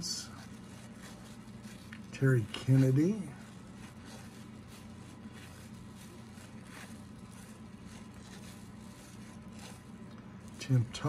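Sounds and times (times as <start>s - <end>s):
cardboard cards rustling: 0.0s - 11.0s
soft scrapes: 0.0s - 11.0s
steady low hum: 0.0s - 11.0s.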